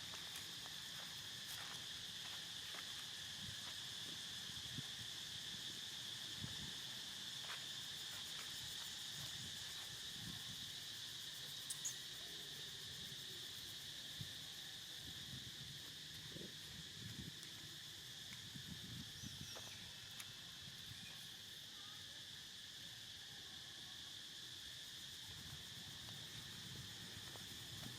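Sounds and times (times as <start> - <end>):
insect chorus: 0.0 - 27.9.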